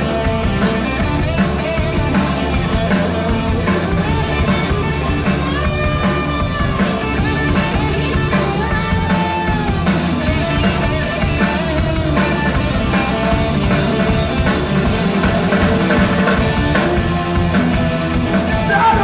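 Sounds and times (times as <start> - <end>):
drum kit: 0.0 - 19.0
electric guitar bending notes: 0.0 - 19.0.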